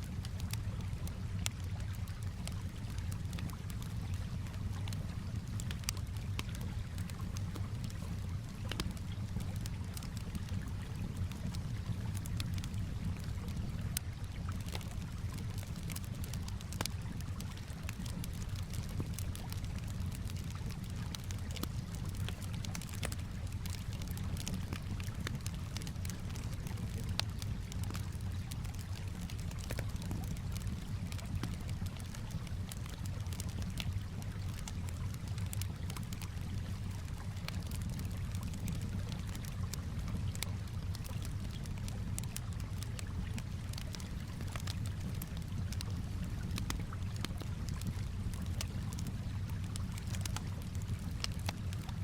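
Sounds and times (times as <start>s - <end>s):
campfire crackling and popping: 0.0s - 52.0s
calm water lapping: 0.3s - 51.8s.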